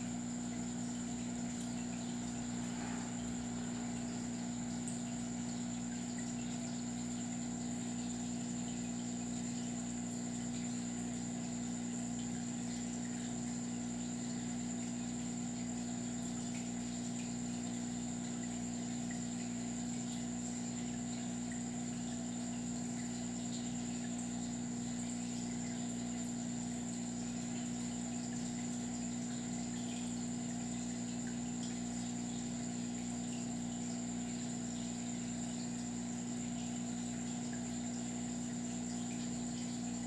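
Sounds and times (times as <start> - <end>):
aquarium pump humming: 0.0 - 40.0.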